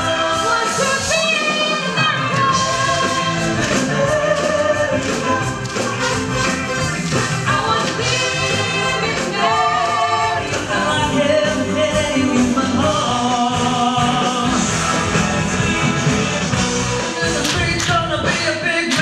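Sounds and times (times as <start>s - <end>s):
stage-show music with singing: 0.0s - 19.0s.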